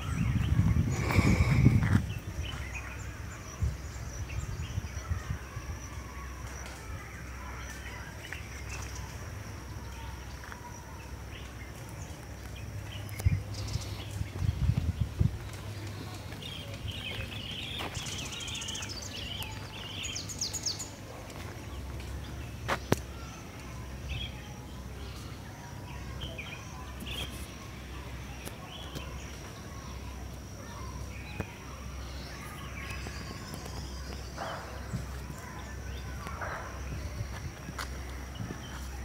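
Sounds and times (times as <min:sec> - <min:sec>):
small birds chirping: 0:00.0 - 0:39.0
steady low rumble: 0:00.0 - 0:39.0.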